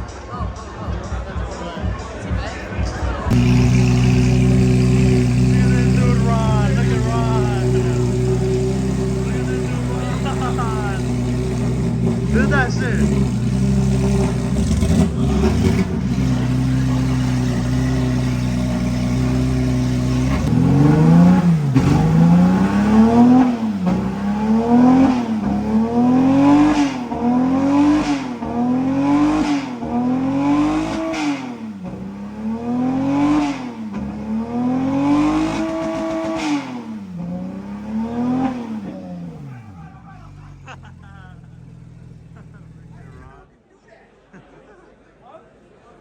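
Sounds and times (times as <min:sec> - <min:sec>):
car engine revving: 0:03.3 - 0:43.5.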